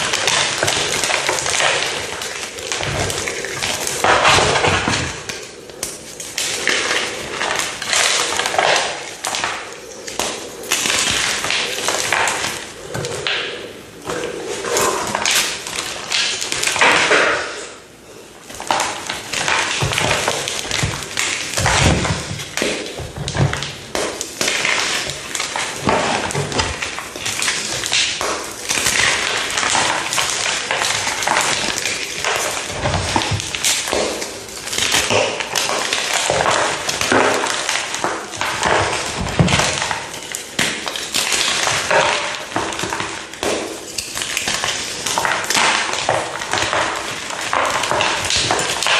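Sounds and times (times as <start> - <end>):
brittle material crunching: 0.0 - 13.4, 18.4 - 48.9.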